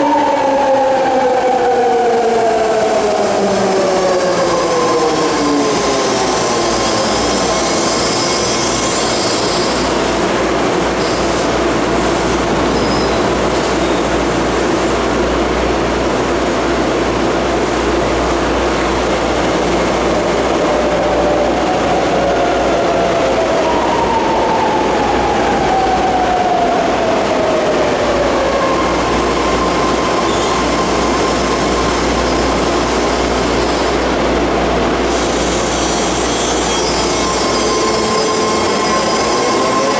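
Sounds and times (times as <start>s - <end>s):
braking train whine: 0.0s - 39.9s
train rumble and hum: 0.0s - 39.9s.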